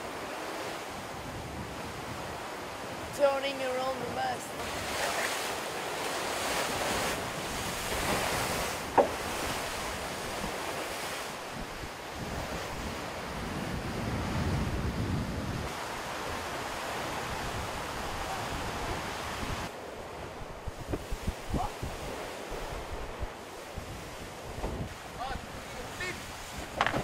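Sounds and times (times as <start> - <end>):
rushing water: 0.0 - 27.0
waves surging against hull: 0.0 - 27.0
wind buffeting microphone: 0.0 - 27.0.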